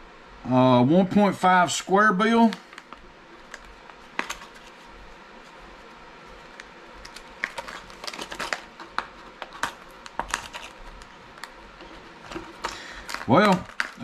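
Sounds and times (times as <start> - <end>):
plastic packaging crinkling: 2.5 - 14.0.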